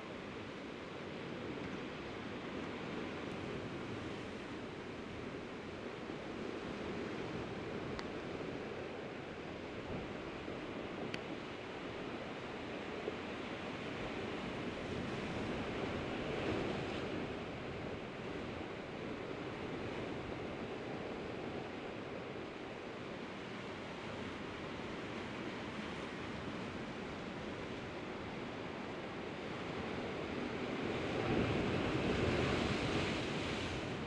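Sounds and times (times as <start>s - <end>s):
surf washing on rocky shore: 0.2s - 34.0s.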